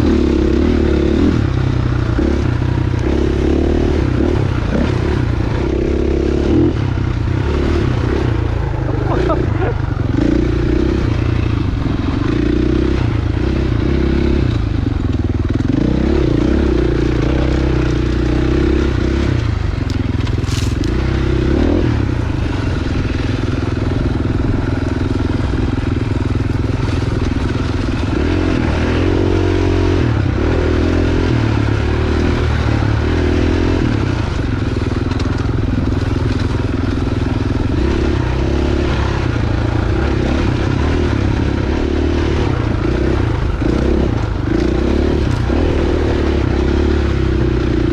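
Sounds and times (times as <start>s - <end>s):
dirt bike engine revving: 0.0s - 47.9s
crunching and rattling ground: 1.8s - 12.7s, 14.5s - 29.3s, 29.9s - 47.9s.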